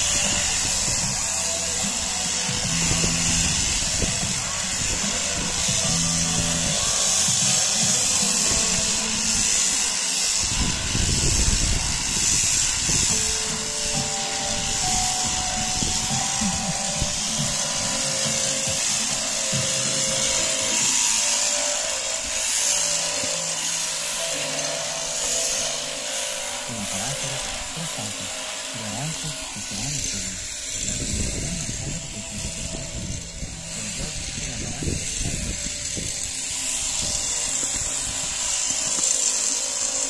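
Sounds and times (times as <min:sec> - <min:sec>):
electric shears chattering: 0:00.0 - 0:40.0.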